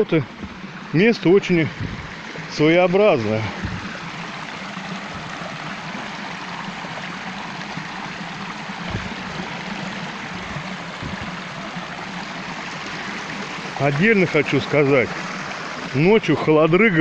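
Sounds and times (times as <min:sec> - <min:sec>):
stream trickling over stones: 0:00.0 - 0:17.0.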